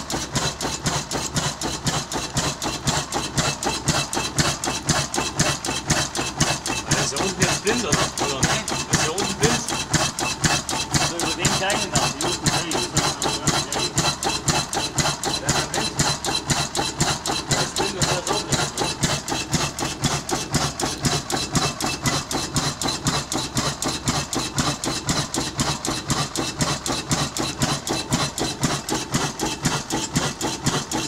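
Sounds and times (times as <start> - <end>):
diesel engine knocking: 0.0 - 31.0.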